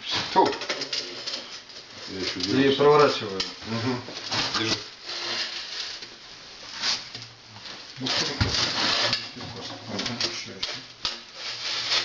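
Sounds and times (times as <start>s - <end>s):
stove parts scraping and clattering: 0.0s - 3.6s, 4.2s - 6.2s, 6.8s - 12.0s.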